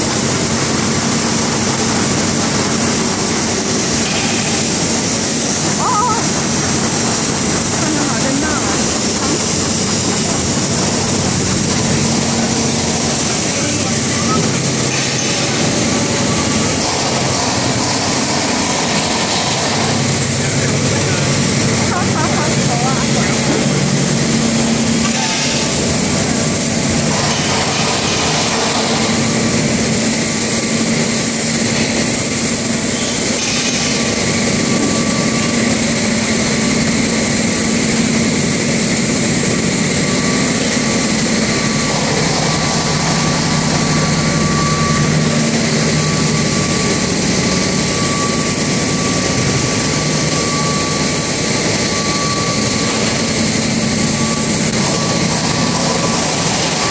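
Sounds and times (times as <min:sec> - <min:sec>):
thin high whine: 0:00.0 - 0:56.9
washing line machinery noise: 0:00.0 - 0:56.9.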